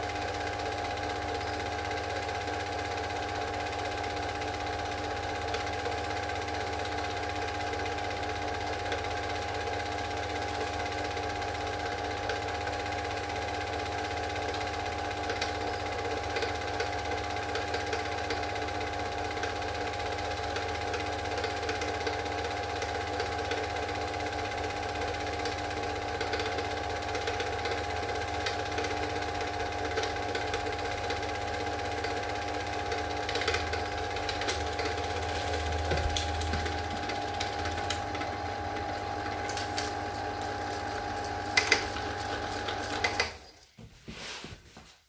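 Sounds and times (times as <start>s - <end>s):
film projector whirring and clattering: 0.0s - 43.5s.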